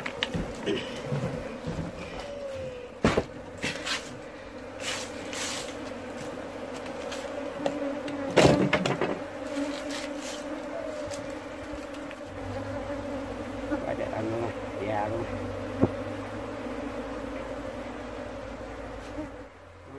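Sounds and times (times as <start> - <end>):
honeybees buzzing: 0.0 - 19.9.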